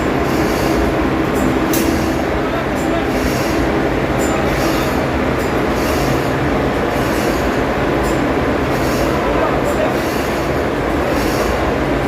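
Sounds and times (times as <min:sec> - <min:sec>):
engine room machinery rumble: 0:00.0 - 0:12.0.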